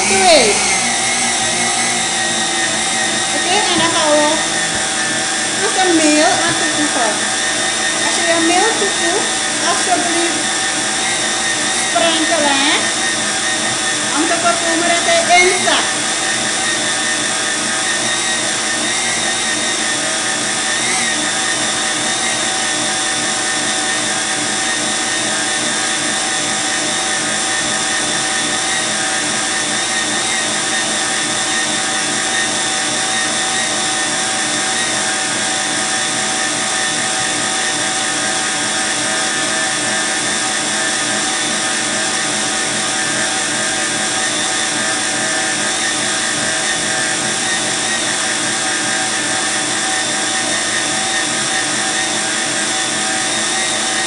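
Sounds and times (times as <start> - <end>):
stand mixer motor whine: 0.0 - 54.0.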